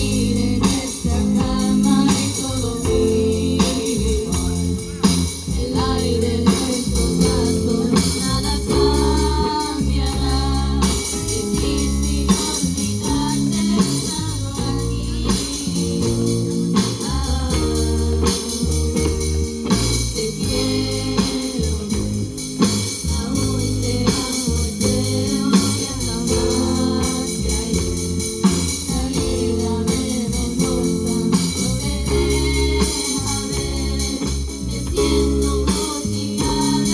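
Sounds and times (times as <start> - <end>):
band playing a song with vocals: 0.0 - 36.9.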